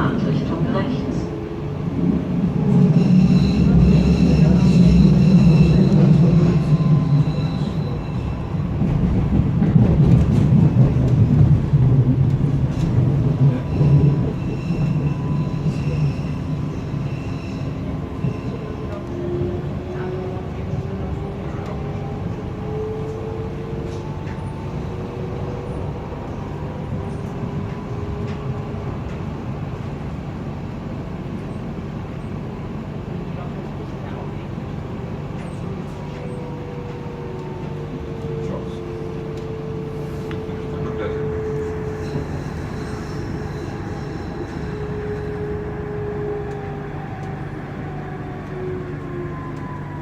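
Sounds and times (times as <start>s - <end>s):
train rumbling: 0.0s - 50.0s.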